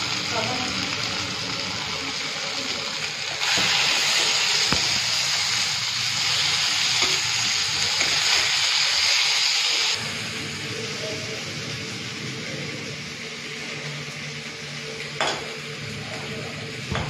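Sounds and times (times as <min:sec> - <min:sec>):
dumplings sizzling in oil: 0:00.0 - 0:17.0.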